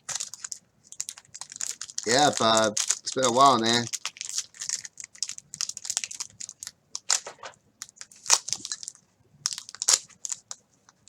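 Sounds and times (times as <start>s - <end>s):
cards rustling: 0.0s - 10.5s
wrapper crinkling: 0.0s - 11.0s.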